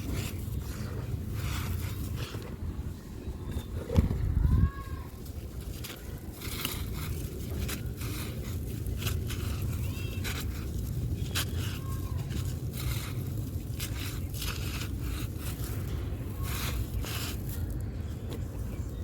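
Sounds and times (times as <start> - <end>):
crumbly block crunching: 0.0 - 19.0
scraping rustles: 0.0 - 19.0.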